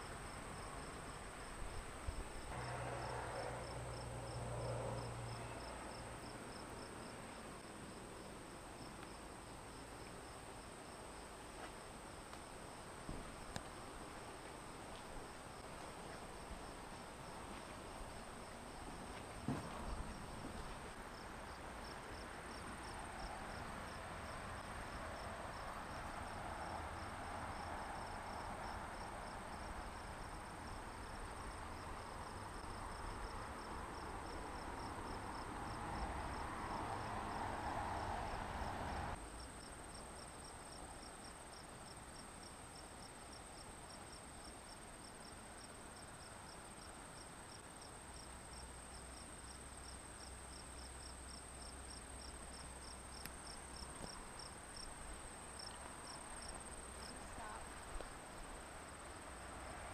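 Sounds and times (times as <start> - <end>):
crickets and insects chirping: 0.0 - 59.9.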